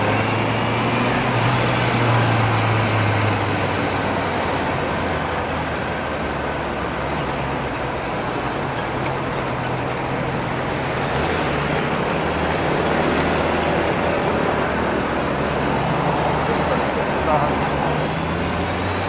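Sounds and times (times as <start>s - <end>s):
surrounding traffic: 0.0s - 19.0s
wind and road noise: 0.0s - 19.0s.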